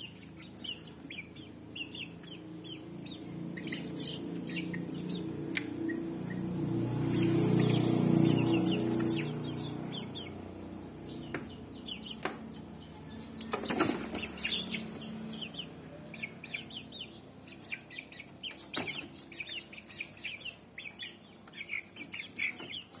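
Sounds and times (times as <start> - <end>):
chickens clucking: 0.0 - 23.0
chicks peeping: 0.0 - 23.0.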